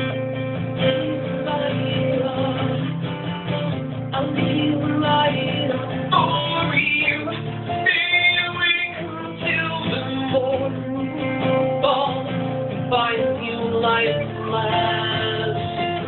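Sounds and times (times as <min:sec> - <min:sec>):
live band with guitar: 0:00.0 - 0:16.0.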